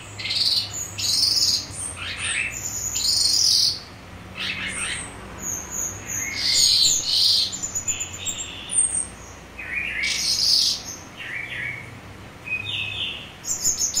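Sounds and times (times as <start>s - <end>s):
lark chirping and twittering: 0.0s - 14.0s.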